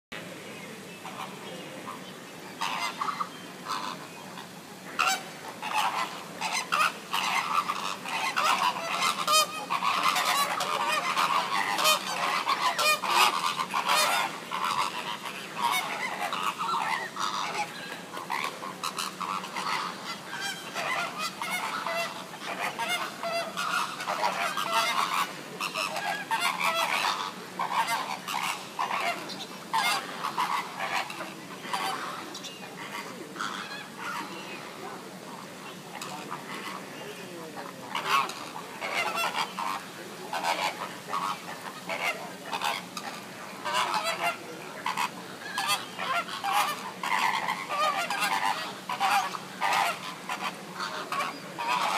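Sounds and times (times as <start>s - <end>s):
flamingos honking: 0.2s - 51.9s.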